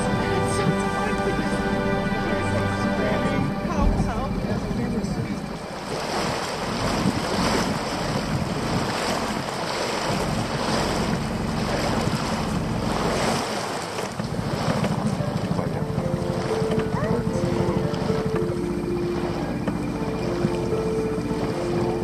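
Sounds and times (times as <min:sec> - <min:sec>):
outboard motor hum: 0:00.0 - 0:22.0
water rushing past boat hull: 0:00.0 - 0:22.0
wind buffeting microphone: 0:02.2 - 0:22.0.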